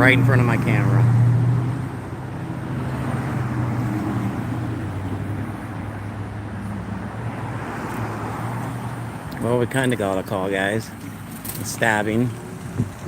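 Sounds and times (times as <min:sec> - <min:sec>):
road and traffic noise: 0:00.0 - 0:13.0
vehicle engine humming: 0:00.0 - 0:13.0.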